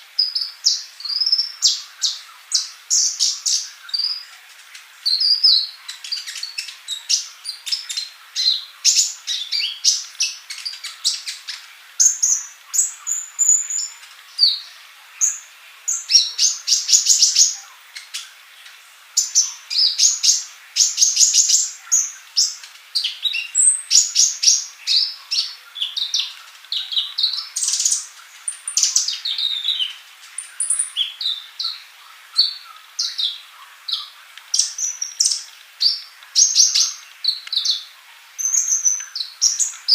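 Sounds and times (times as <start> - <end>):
sunbird singing high chirps and trills: 0.0 - 39.9.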